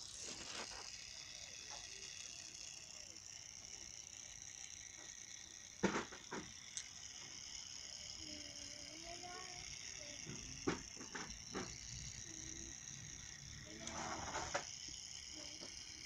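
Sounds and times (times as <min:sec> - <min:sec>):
small motor propeller whirring: 0:00.0 - 0:16.0.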